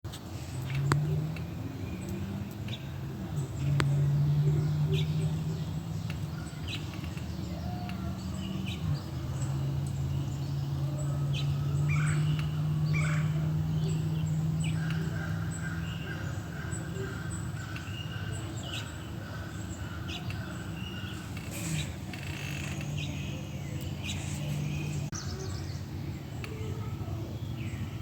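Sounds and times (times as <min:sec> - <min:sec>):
small birds chirping: 0:00.1 - 0:28.0.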